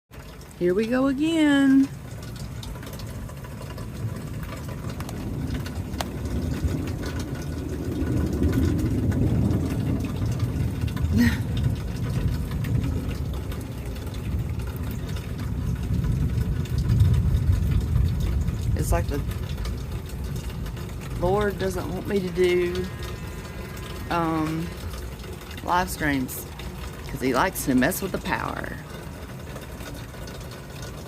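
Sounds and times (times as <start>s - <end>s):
low rumble of thunder: 1.8s - 31.0s.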